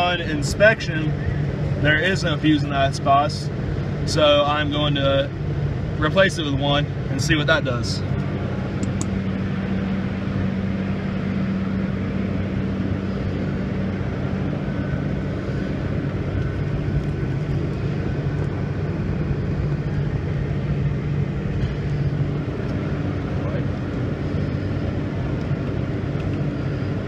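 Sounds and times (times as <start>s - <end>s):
truck cab engine hum: 0.0s - 27.0s.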